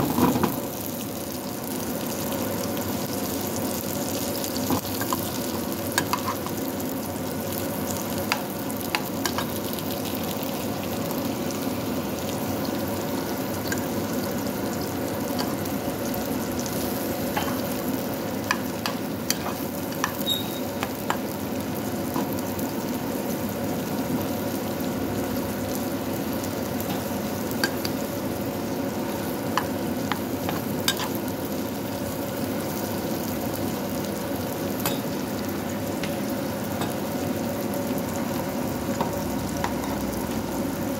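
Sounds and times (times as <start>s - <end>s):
vegetables sizzling in oil: 0.0s - 40.9s.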